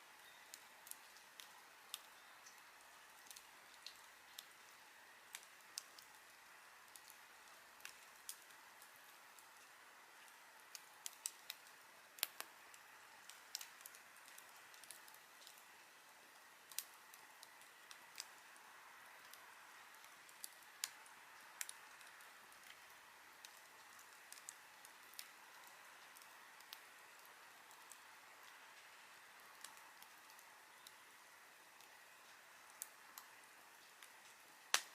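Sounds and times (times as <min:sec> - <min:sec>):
campfire crackling: 0:00.0 - 0:34.9
soft steady hiss: 0:00.0 - 0:34.9.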